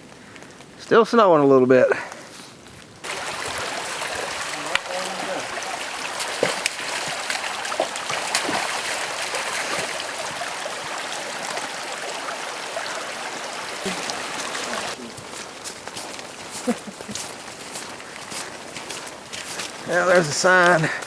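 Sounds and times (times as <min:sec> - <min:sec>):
stream rushing: 0:03.0 - 0:20.8.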